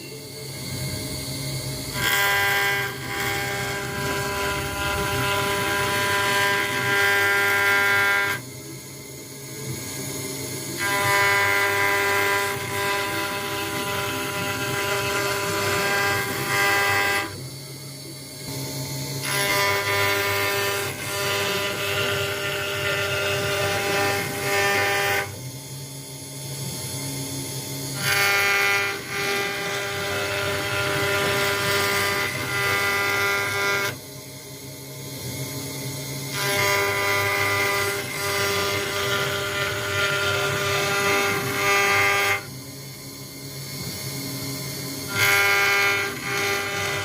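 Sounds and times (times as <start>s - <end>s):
router machine whine: 0.0s - 47.0s.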